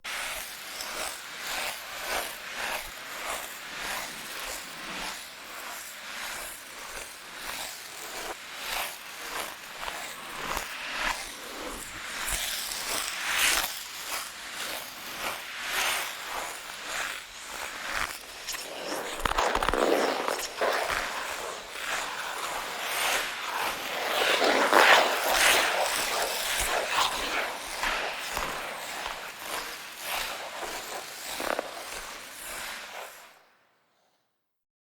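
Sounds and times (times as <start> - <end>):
ice skate blades scraping ice: 0.1 - 33.4.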